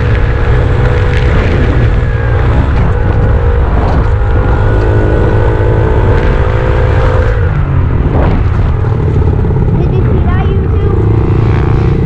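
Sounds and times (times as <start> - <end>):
dirt bike engine revving: 0.0 - 12.0
wind rumble on microphone: 0.0 - 12.0.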